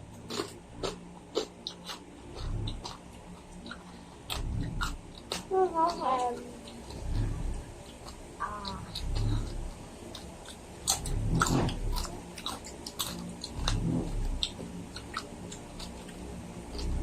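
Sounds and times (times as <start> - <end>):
chewing and crunching food: 0.0 - 17.0.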